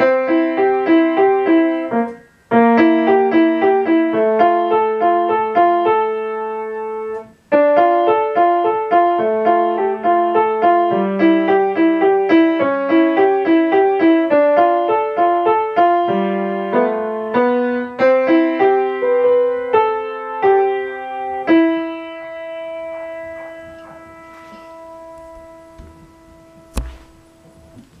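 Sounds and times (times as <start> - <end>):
grand piano playing: 0.0 - 28.0.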